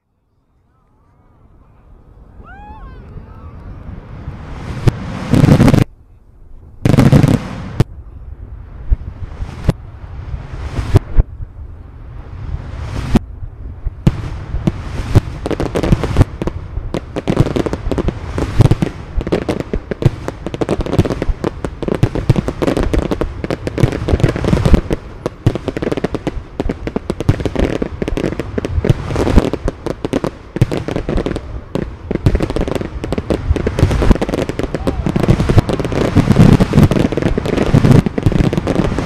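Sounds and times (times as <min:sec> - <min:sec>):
fireworks crackling: 0:02.4 - 0:39.0
fireworks launching and bursting: 0:03.5 - 0:05.9, 0:06.8 - 0:08.0, 0:08.7 - 0:39.0.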